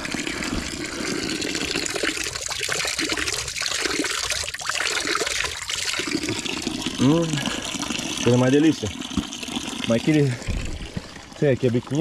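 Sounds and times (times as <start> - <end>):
water running from a spout: 0.0 - 12.0.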